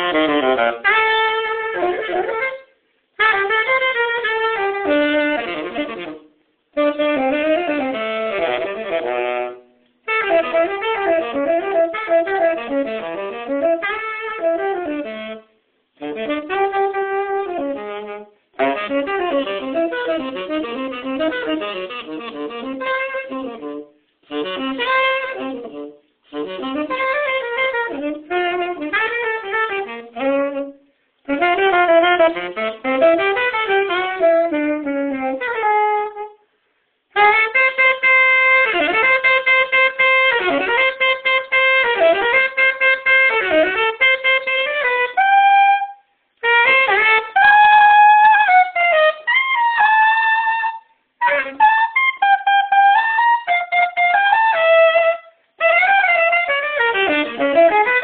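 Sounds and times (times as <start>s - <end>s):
tenor saxophone jazz improvisation: 0.0s - 58.0s.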